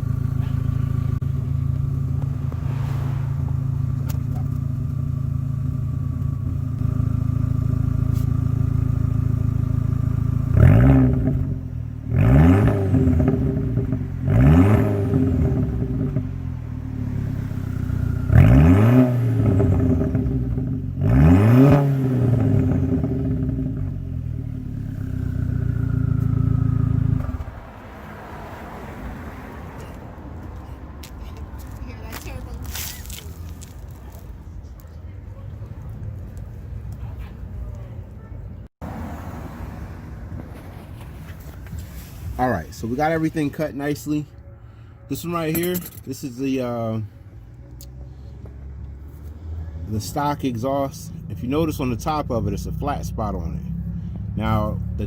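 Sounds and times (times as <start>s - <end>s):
unmuffled car engine revving: 0.0s - 31.4s, 38.1s - 43.7s, 47.0s - 55.0s.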